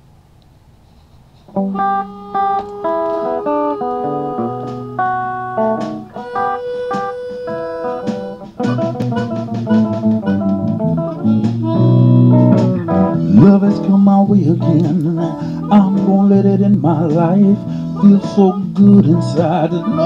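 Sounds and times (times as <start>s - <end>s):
slow love song: 0.9s - 20.0s
picked guitar notes: 1.4s - 20.0s
bass notes: 1.6s - 20.0s.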